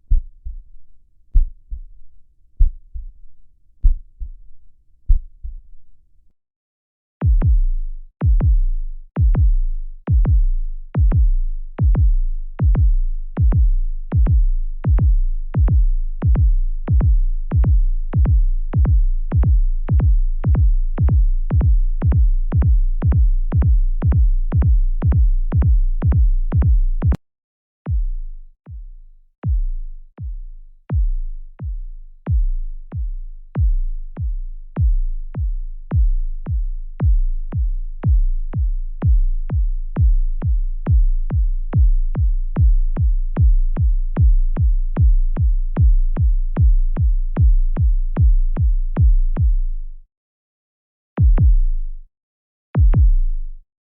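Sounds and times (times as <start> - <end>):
heartbeat thumps: 0.1 - 0.8, 1.4 - 2.0, 2.6 - 3.2, 3.8 - 5.7, 7.2 - 27.2, 27.9 - 49.7, 51.2 - 51.7, 52.8 - 53.2.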